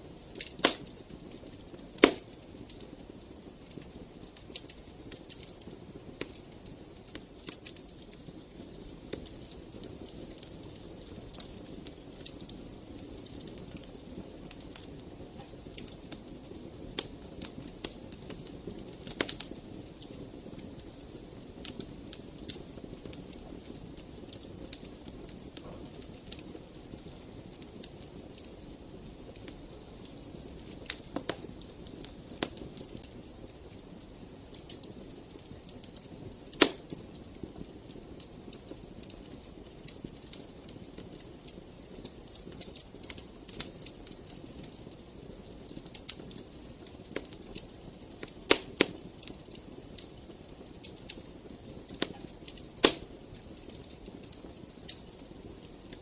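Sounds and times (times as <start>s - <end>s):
fire crackles and pops: 0.0s - 56.0s
wood fire burning: 0.0s - 56.0s.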